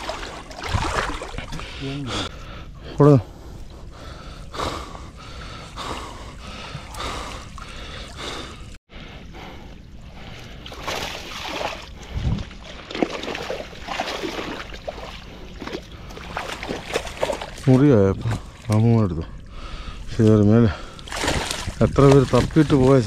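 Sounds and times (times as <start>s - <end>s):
water sloshing and splashing: 0.0s - 2.4s, 5.2s - 8.8s, 9.8s - 23.0s.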